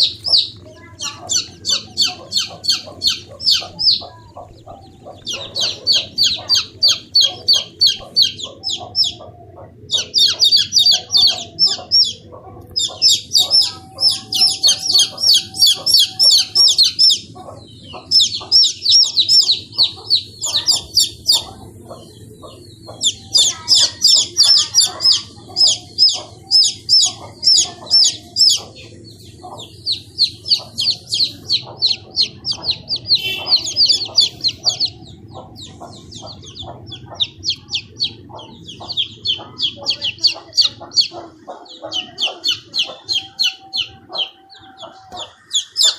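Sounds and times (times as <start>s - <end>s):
high bird chirps: 0.0s - 45.9s
low clucking bird calls: 0.0s - 45.9s
steady low hum: 0.0s - 45.9s.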